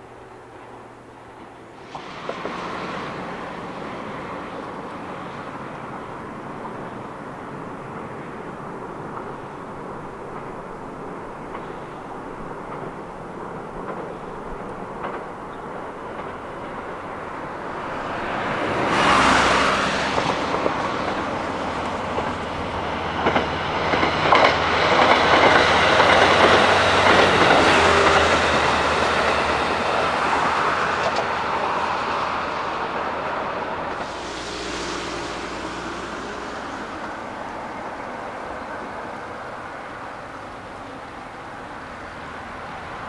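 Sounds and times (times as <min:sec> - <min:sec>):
passenger train passing: 0:00.0 - 0:43.0
wheels clacking over rail joints: 0:00.5 - 0:43.0.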